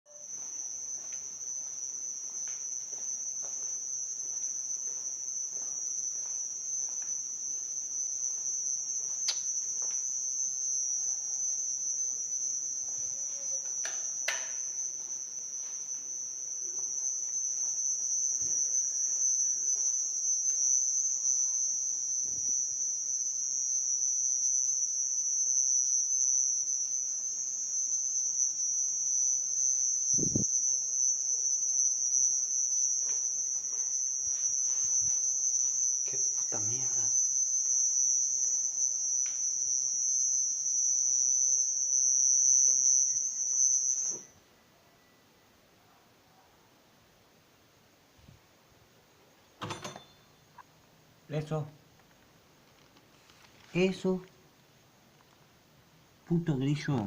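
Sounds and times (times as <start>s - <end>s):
cricket chirping: 0.1s - 57.0s.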